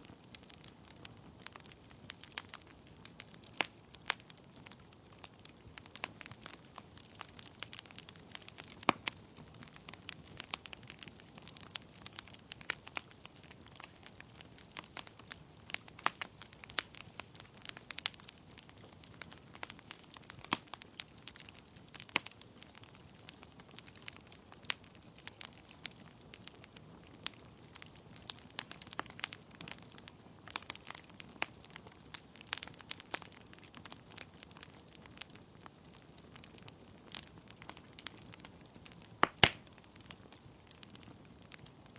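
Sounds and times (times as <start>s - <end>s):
logs crackling and popping: 0.0s - 41.9s.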